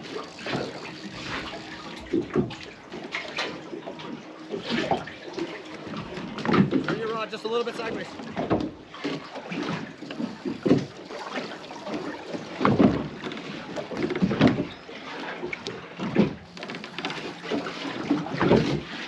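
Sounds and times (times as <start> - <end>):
water slapping against boat hull: 0.0 - 19.0
wind and water noise: 0.0 - 19.0.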